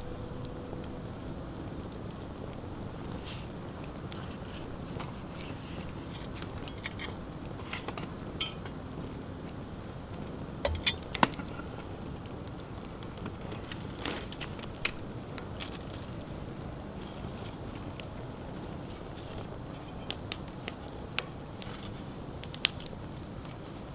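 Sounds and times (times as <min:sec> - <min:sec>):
campfire crackling and popping: 0:00.0 - 0:23.9.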